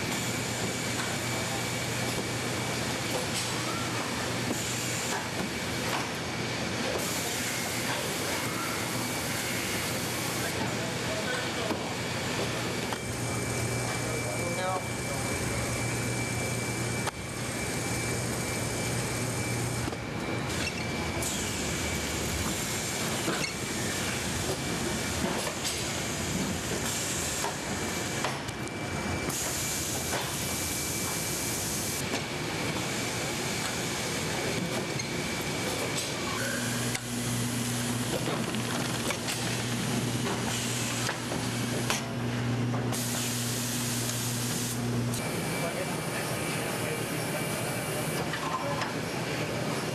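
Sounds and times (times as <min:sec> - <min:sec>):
factory machinery humming: 0:00.0 - 0:49.9.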